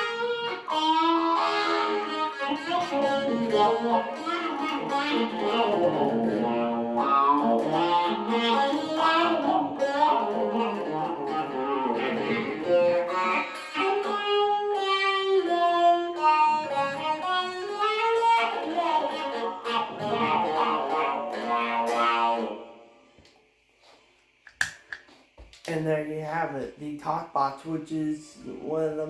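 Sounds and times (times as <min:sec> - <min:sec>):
electric guitar through talk box: 0:00.0 - 0:15.0, 0:16.2 - 0:22.5, 0:25.7 - 0:29.0.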